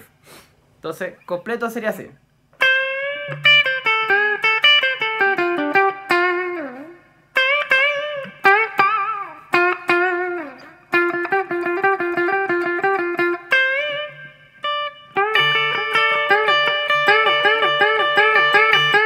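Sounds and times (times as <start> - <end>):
electric guitar lead solo: 2.6 - 19.0.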